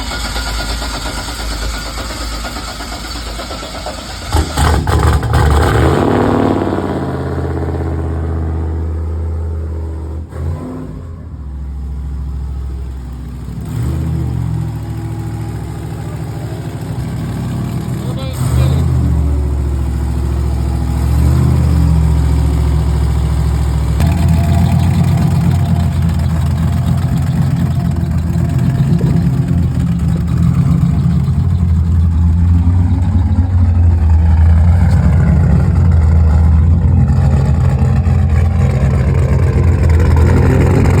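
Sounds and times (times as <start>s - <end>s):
car engine running loudly: 0.0s - 10.3s, 10.9s - 41.0s.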